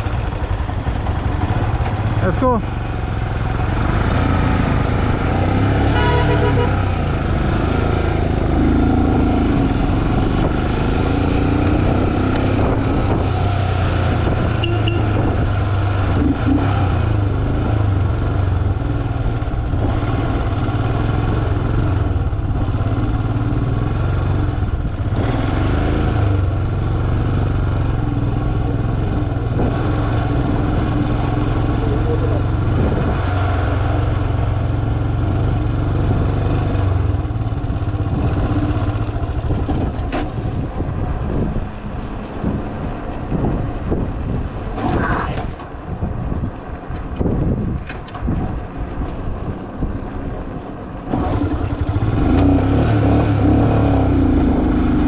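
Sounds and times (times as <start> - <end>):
motorcycle engine running: 0.0 - 44.8, 50.9 - 55.0.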